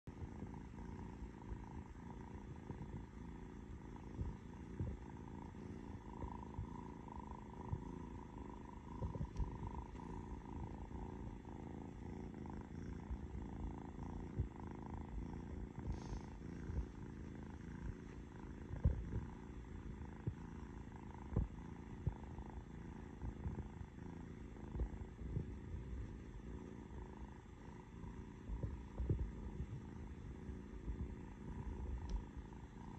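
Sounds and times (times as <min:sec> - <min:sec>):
kitten purring: 0:00.0 - 0:32.9.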